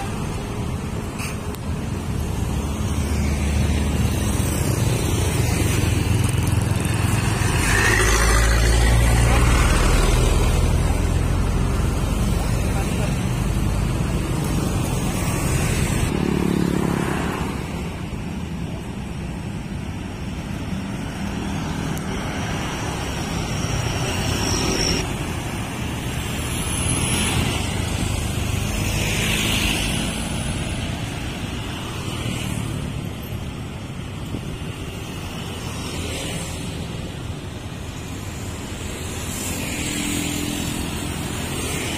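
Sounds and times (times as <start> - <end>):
cars passing: 0.0 - 41.9
traffic rumble: 0.0 - 41.9.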